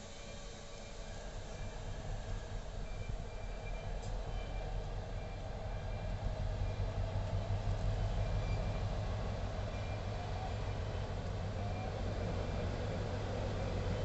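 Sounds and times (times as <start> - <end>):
diesel locomotive engine humming: 0.0 - 14.0.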